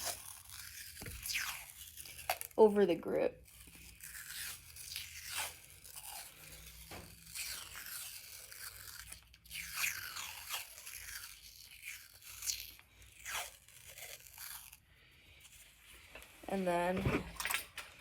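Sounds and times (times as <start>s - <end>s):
tape peeling off a roll: 0.0s - 2.6s, 3.4s - 16.2s.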